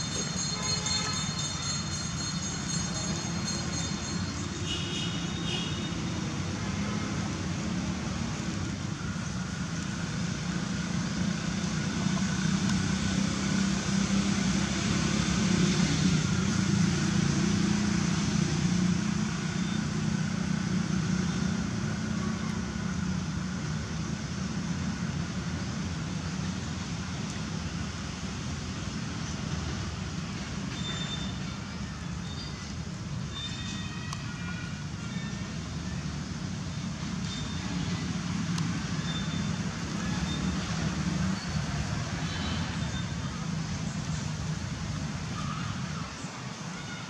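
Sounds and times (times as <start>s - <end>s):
road traffic rumble: 0.0s - 47.0s.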